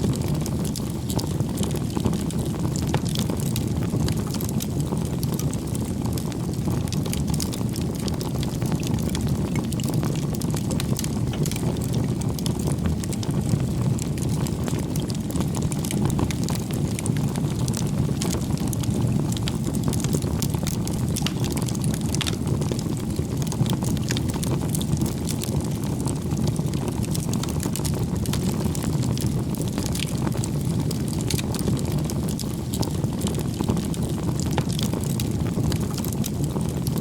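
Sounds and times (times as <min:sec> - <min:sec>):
bonfire crackling: 0:00.0 - 0:37.0.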